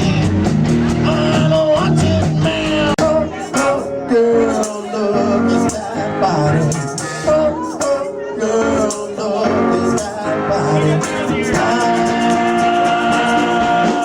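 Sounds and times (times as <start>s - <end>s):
man singing: 0.0s - 14.0s
rock guitar music: 0.0s - 14.0s.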